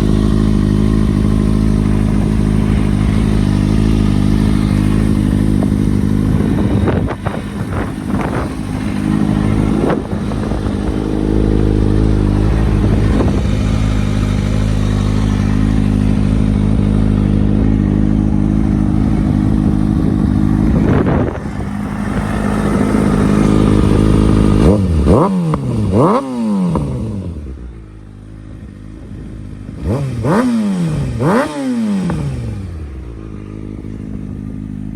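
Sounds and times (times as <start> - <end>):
motorcycle engine idling: 0.0 - 34.9
motorcycle throttle blips: 0.0 - 34.9.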